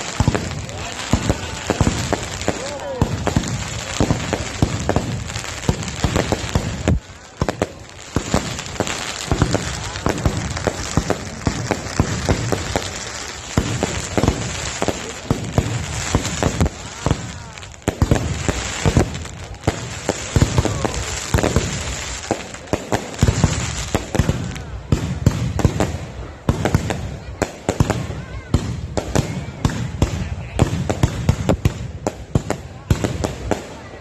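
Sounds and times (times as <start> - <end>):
fireworks crackling: 0.0 - 34.0
fireworks sharp bangs: 0.0 - 34.0.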